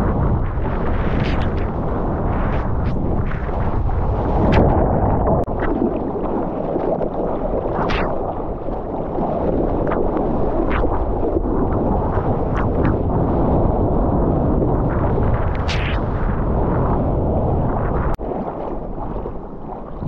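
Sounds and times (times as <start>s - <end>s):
water rushing and splashing: 0.0s - 13.6s, 14.8s - 20.0s
wind buffeting microphone: 0.0s - 20.0s.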